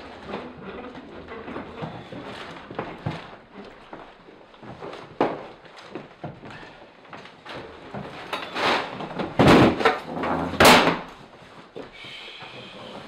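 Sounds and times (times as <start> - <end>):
chairs thumping and scraping: 0.0 - 11.8.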